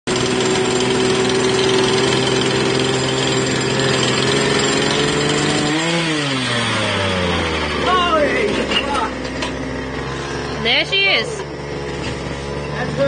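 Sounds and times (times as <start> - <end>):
motor humming: 0.1 - 13.0.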